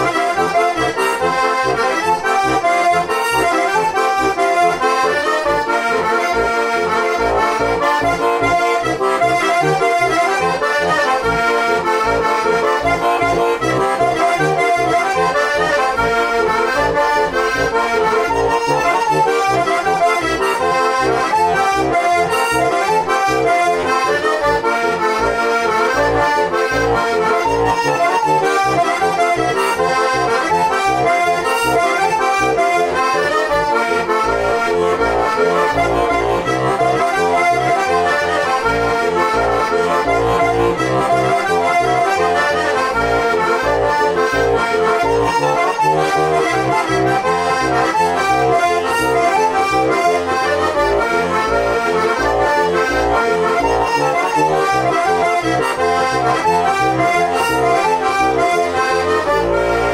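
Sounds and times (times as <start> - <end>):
accordion bass notes pulsing: 0.0 - 59.9
button accordion playing folk tune: 0.0 - 59.9.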